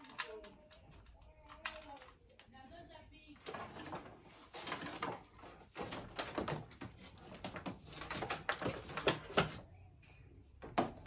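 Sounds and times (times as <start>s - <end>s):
cable rustling: 0.0s - 9.8s.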